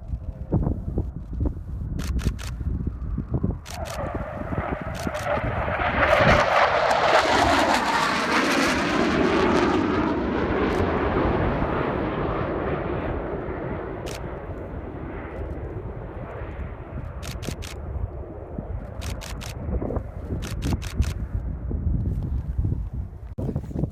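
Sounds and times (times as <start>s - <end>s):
jet flying past: 1.9s - 21.9s.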